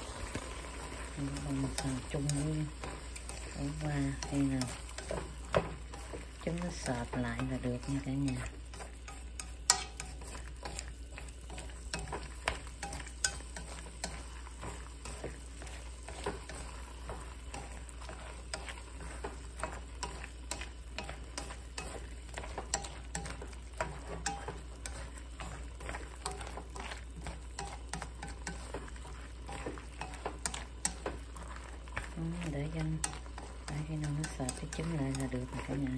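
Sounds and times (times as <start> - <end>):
food sizzling in wok: 0.0 - 35.9
chopsticks tapping pan: 0.9 - 35.9.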